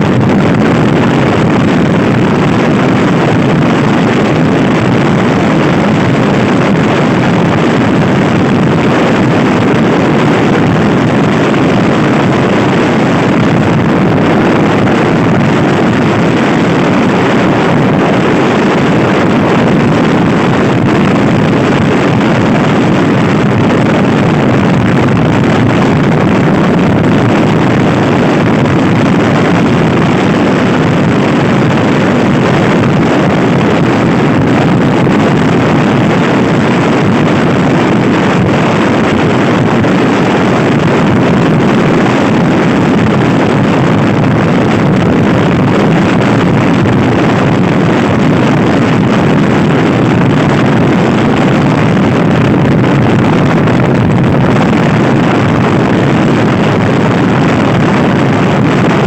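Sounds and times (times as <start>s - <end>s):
wind roar on microphone: 0.0s - 59.0s.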